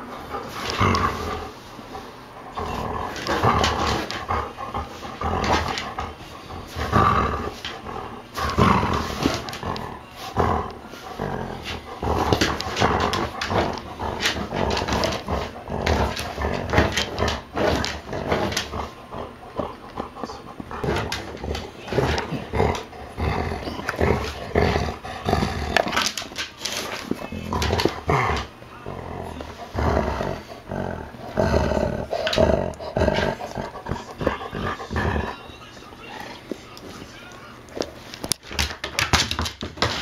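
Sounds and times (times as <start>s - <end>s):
dog growling in play: 0.0s - 36.6s.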